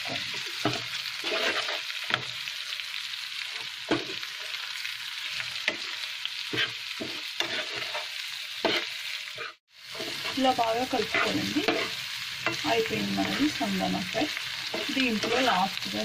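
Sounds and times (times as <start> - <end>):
metal spoon scraping a pan: 0.0 - 2.4, 5.3 - 16.0
food sizzling in oil: 0.0 - 16.0.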